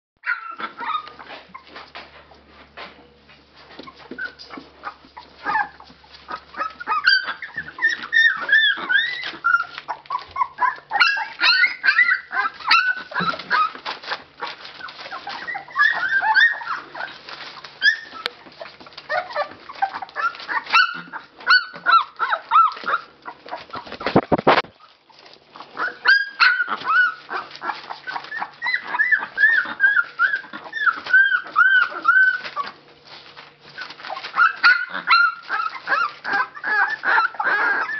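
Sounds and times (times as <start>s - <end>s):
puppies whimpering and squealing: 0.2s - 2.2s, 3.6s - 37.9s.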